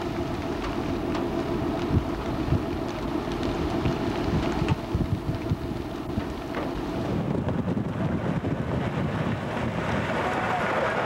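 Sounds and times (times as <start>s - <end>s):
low wind thumps: 0.0s - 11.0s
wind gusting over microphone: 0.0s - 11.0s.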